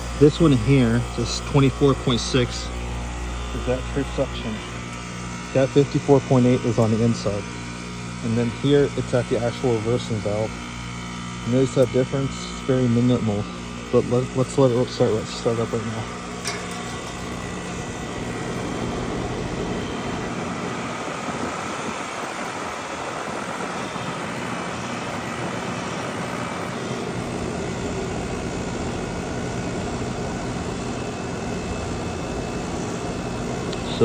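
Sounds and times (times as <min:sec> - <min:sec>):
heat pump hum and whoosh: 0:00.0 - 0:34.0.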